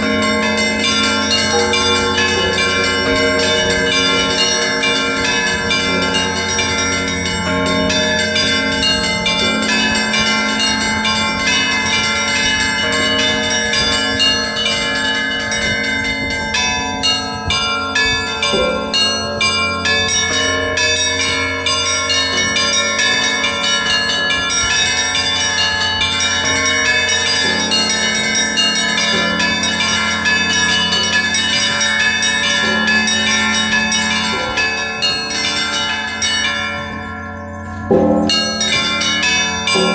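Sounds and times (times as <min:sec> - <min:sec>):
low hum of large bells: 0:00.0 - 0:39.9
small bells pealing: 0:00.0 - 0:39.9.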